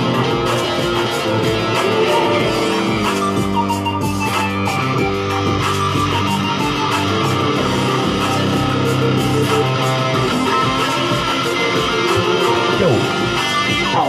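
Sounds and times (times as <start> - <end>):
electric guitar riff: 0.0 - 14.0.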